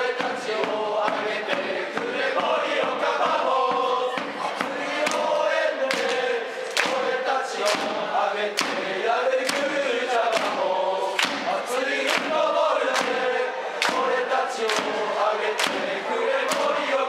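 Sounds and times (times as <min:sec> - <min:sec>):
hand claps on the beat: 0:00.0 - 0:02.7, 0:03.3 - 0:17.0
crowd chanting in unison: 0:00.0 - 0:17.0.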